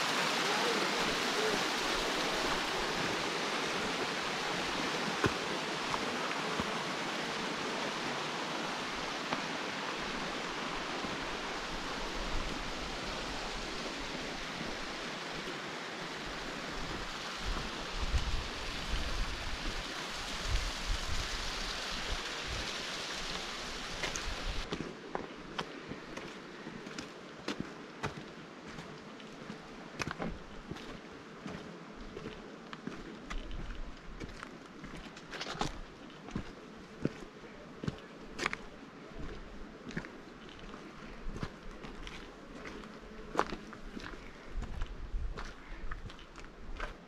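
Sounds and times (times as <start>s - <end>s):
running water rushing: 0.0s - 45.4s.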